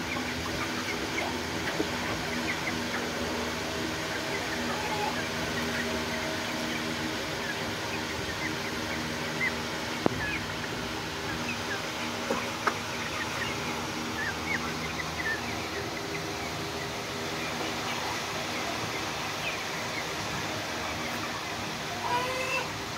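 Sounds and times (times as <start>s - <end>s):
chicks cheeping: 0.0s - 22.9s.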